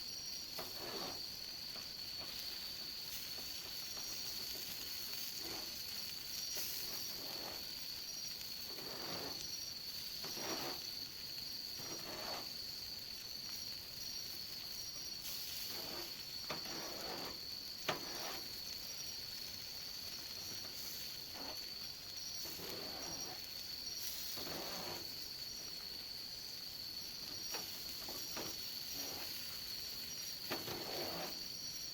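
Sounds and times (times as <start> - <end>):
insect pulsing chirp: 0.0 - 31.9
insects trilling: 0.0 - 31.9
wood fire hissing: 0.0 - 31.9.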